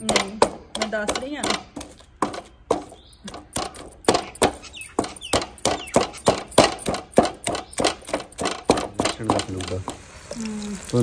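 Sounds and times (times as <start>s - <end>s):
wooden masher knocking in wok: 0.0s - 10.0s.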